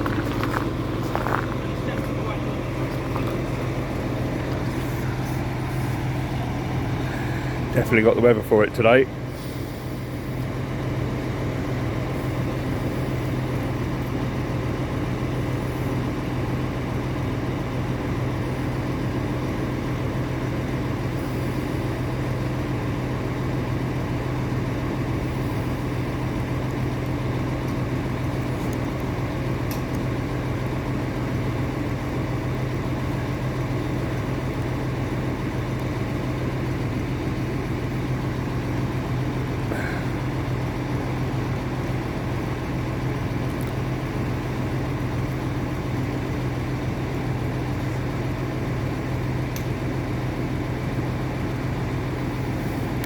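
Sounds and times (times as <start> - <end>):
large engine humming: 0.0 - 53.0.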